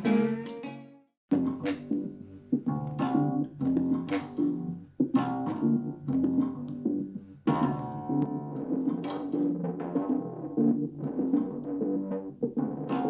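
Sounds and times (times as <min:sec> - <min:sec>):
guitar music with bass on speaker: 0:00.0 - 0:13.0.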